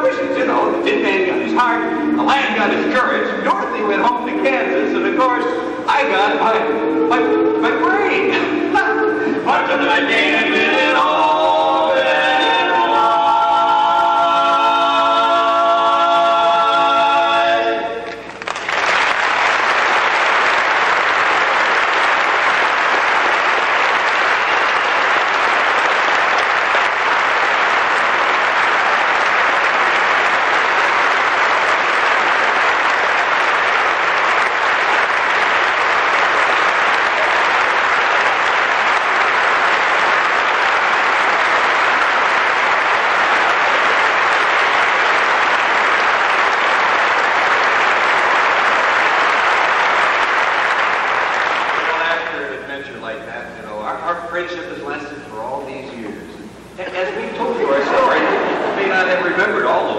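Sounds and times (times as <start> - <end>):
audience applauding: 0.0 - 53.1, 57.2 - 59.9.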